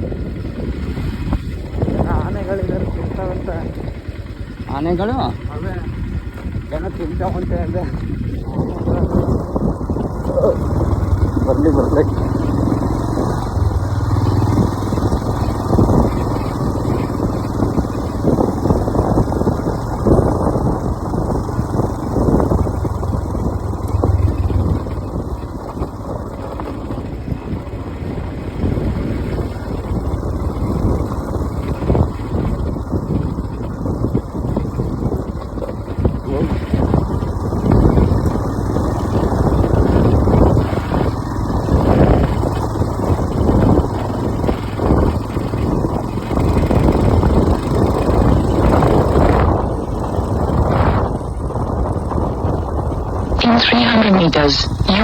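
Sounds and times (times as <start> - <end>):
vehicle engine and road rumble: 0.0 - 55.0
wind on microphone: 0.0 - 55.0.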